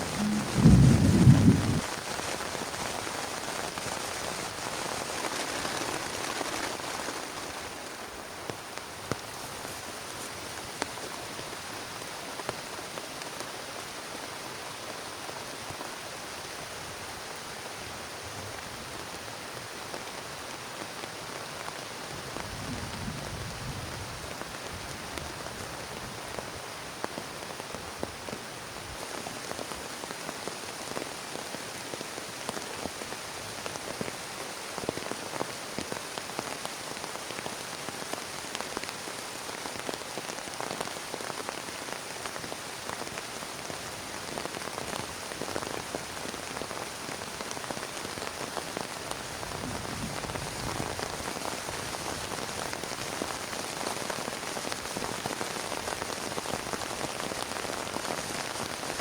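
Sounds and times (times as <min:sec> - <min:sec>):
raindrops ticking on a surface: 0:00.0 - 0:23.3, 0:24.2 - 0:59.0
heavy rain falling: 0:00.0 - 0:59.0.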